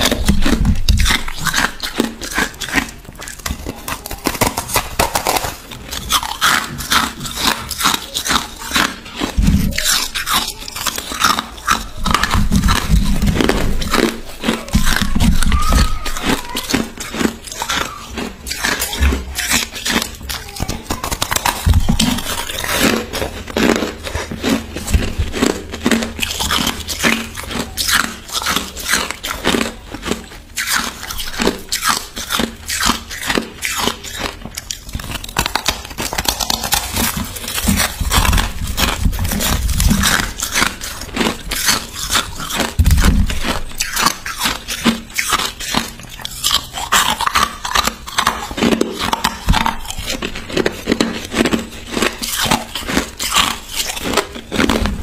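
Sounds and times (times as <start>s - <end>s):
person chewing crushed ice: 0.0s - 55.0s.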